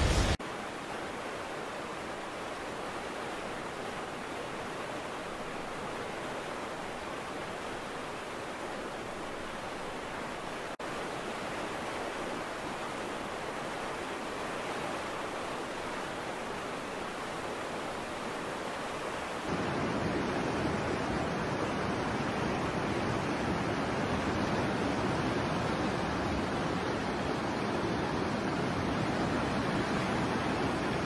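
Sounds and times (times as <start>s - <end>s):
floodwater rushing: 0.0s - 31.0s.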